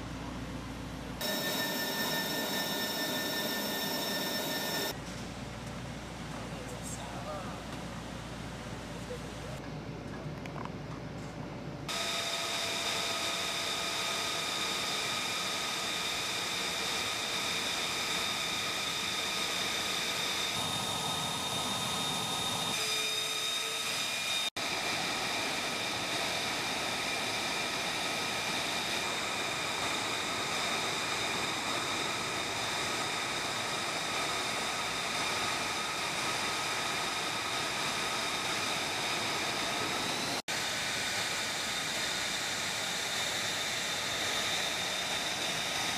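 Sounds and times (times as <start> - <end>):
high-pitched turbine whine: 1.2 - 5.0, 11.9 - 45.9
jet engine running: 1.2 - 5.0, 11.9 - 45.9.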